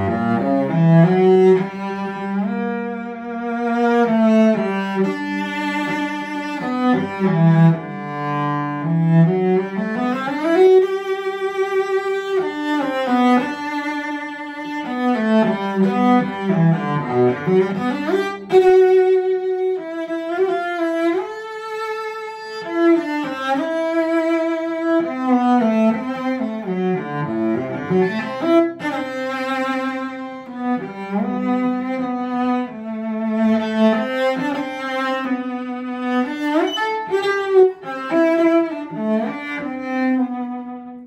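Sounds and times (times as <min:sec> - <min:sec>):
bowed cello melody: 0:00.0 - 0:41.0.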